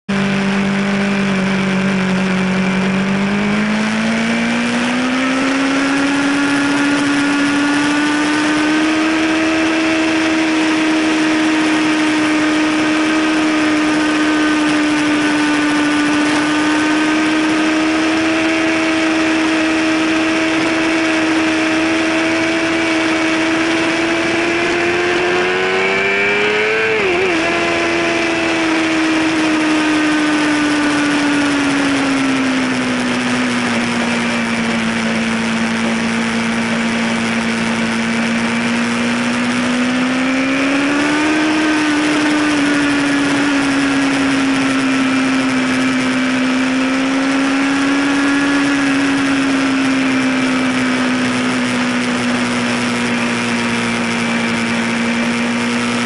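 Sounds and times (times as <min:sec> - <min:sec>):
motorcycle engine pulling hard: 0:00.0 - 0:56.0
wind noise: 0:00.1 - 0:56.0.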